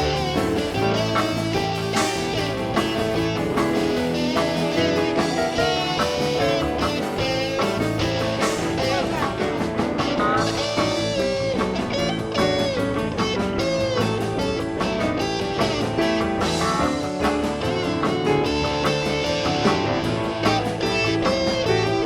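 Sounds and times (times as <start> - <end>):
blues-rock band playing: 0.0 - 22.0
lead guitar bending notes: 0.0 - 22.0.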